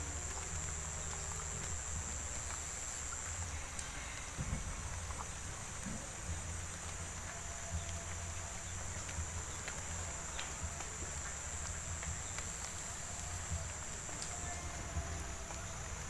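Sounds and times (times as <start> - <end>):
faint ticks: 0.0 - 16.0
high-pitched insect chorus: 0.0 - 16.0.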